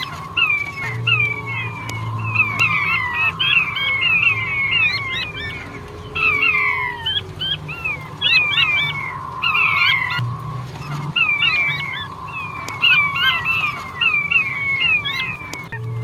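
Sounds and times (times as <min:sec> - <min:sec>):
quail calling with falling whistles: 0:00.0 - 0:16.0.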